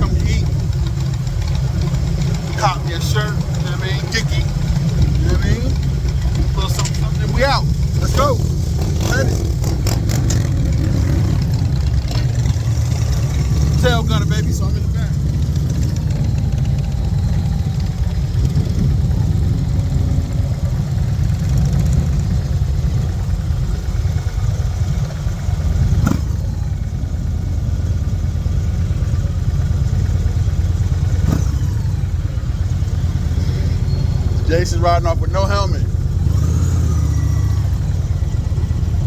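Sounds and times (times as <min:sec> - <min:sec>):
motorcycle engines rumbling: 0:00.0 - 0:39.0.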